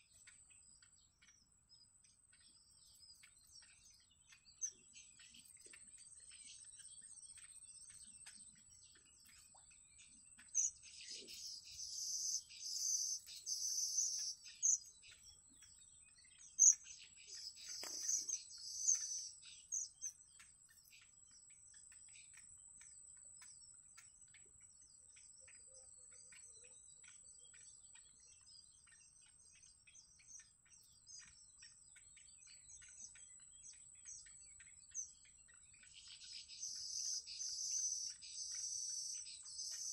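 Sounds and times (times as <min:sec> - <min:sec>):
faint ticks: 0:00.0 - 0:39.9.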